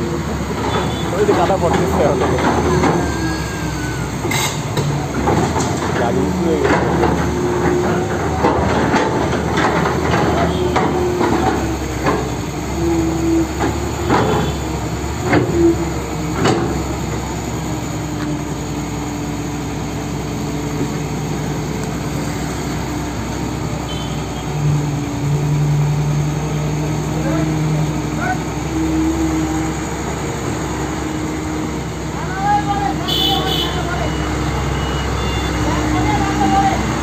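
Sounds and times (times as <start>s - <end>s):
excavator engine running: 0.0s - 37.0s.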